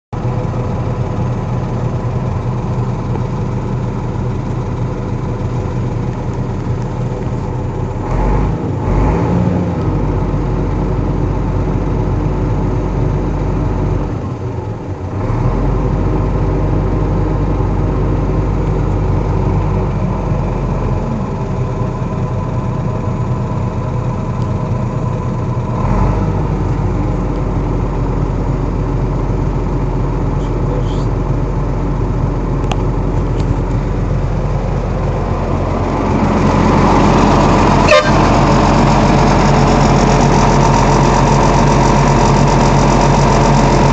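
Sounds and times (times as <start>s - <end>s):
engine idling: 0.1s - 43.9s.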